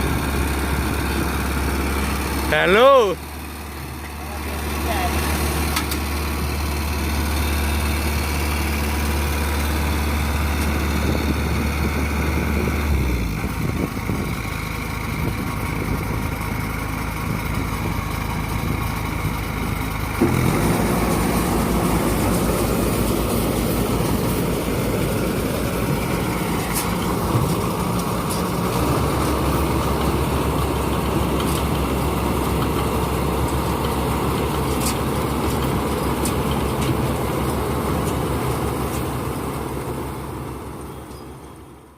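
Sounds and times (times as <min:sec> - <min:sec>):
combine harvester engine running: 0:00.0 - 0:41.9.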